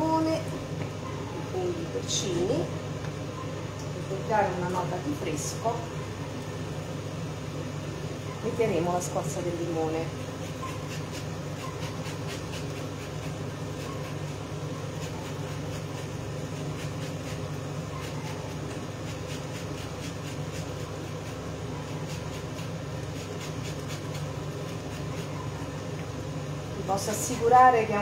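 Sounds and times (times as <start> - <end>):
cooker hood fan humming: 0.0 - 28.0.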